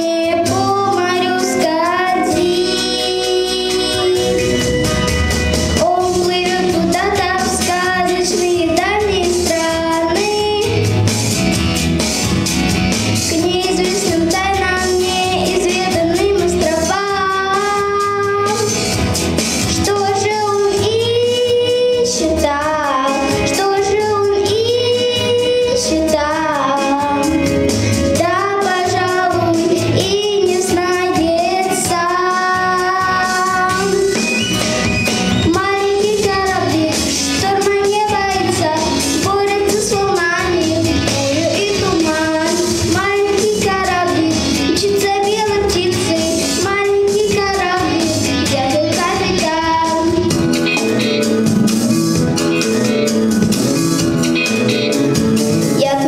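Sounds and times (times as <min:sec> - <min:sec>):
girl singing into a microphone: 0:00.0 - 0:04.7, 0:05.7 - 0:11.0, 0:13.2 - 0:18.8, 0:19.6 - 0:34.3, 0:35.4 - 0:50.8, 0:55.6 - 0:56.0
instrumental accompaniment: 0:00.0 - 0:56.0.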